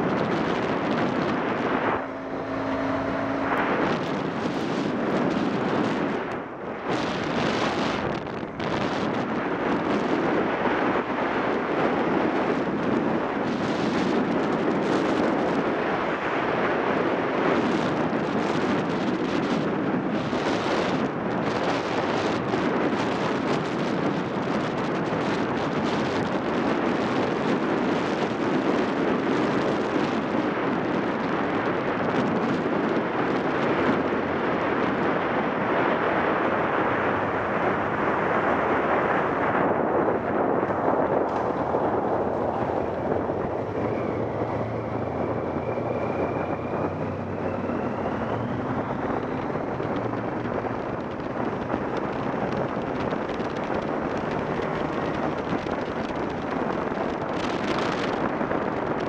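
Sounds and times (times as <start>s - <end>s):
tyres on road: 0.0s - 59.0s
wind buffeting microphone: 0.0s - 59.0s.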